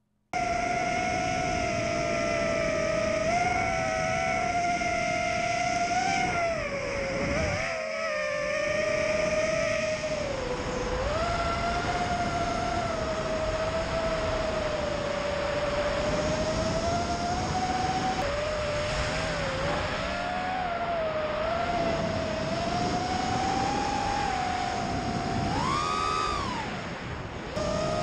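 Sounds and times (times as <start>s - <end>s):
drone motors whining: 0.4s - 28.0s
wind noise: 0.4s - 28.0s.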